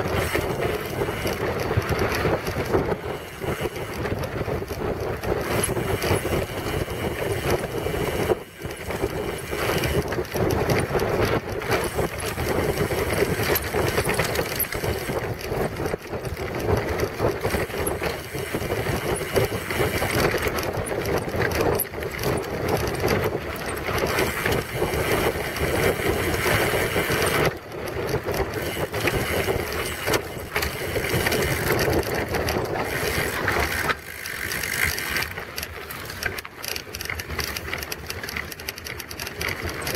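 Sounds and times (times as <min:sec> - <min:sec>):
wind rushing over microphone: 0:00.0 - 0:35.5
bike rattling over rough ground: 0:00.0 - 0:39.9
bike tyre noise: 0:00.0 - 0:39.9.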